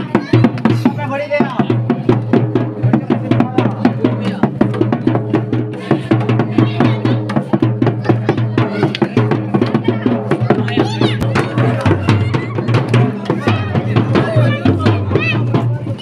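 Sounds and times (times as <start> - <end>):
barrel drum beaten with stick: 0.0 - 16.0.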